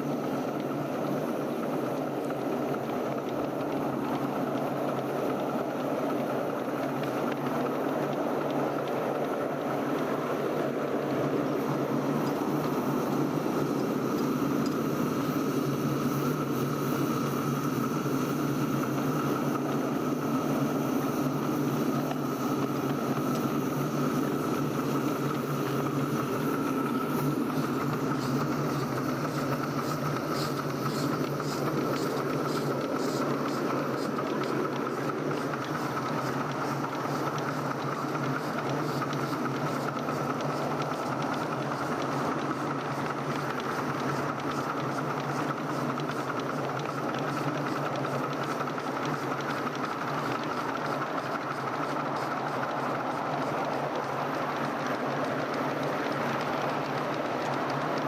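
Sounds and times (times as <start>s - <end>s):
miniature railway train running: 0.0s - 58.0s.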